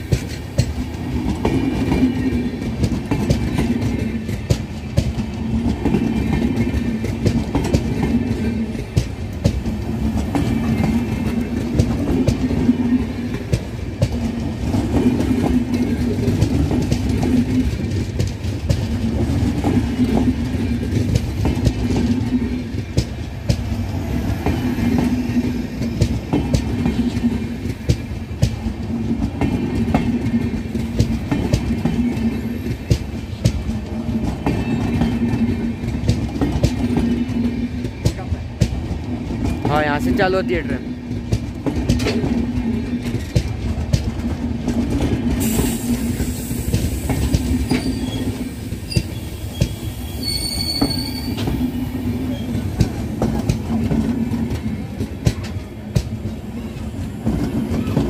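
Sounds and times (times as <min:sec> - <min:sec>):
train coaches rumbling past: 0:00.0 - 0:58.0
wheels clicking over rail joints: 0:00.0 - 0:58.0.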